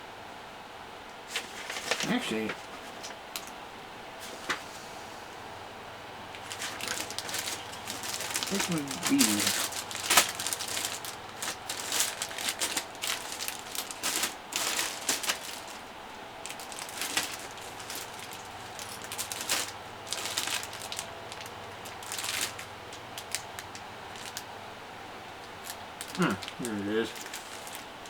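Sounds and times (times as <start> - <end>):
plastic parts clicking and rustling: 1.3 - 3.6, 6.3 - 24.5, 25.4 - 28.0.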